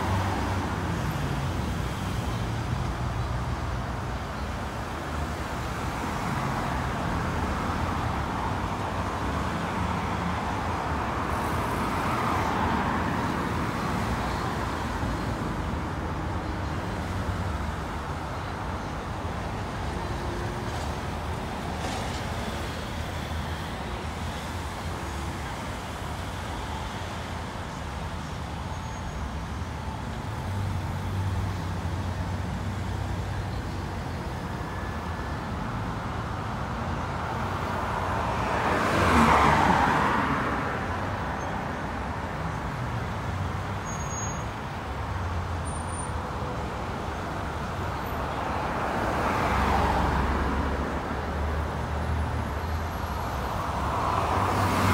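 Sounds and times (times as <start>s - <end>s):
road traffic engine drone: 0.0s - 54.9s.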